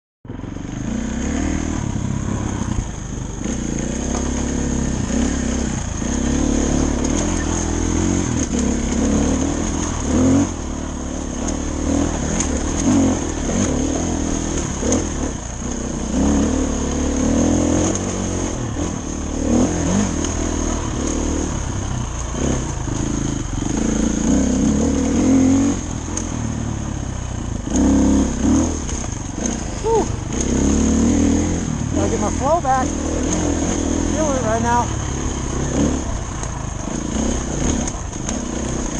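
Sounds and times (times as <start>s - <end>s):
dirt bike engine revving: 0.3s - 38.9s.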